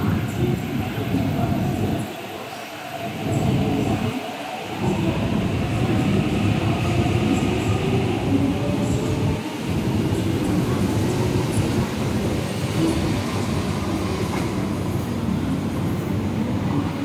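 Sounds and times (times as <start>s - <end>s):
electric train rumbling on rails: 0.0s - 17.0s.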